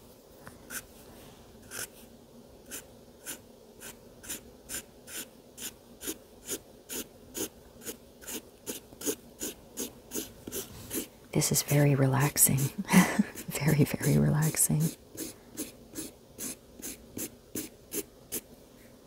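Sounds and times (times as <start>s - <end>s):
marker scratching on paper: 0.7s - 0.9s, 1.6s - 2.0s, 2.7s - 18.4s.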